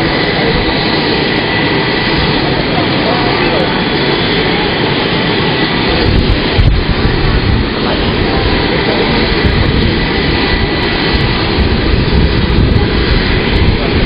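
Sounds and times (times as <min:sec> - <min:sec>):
helicopter turbine engines running: 0:00.0 - 0:14.0
high turbine whine: 0:00.0 - 0:14.0.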